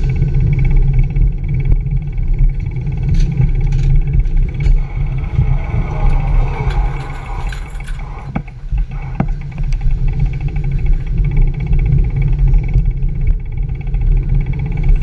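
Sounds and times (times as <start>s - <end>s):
bicycle clicks and knocks: 0.0s - 15.0s
traffic rumble: 0.0s - 15.0s
wind on microphone: 0.0s - 15.0s.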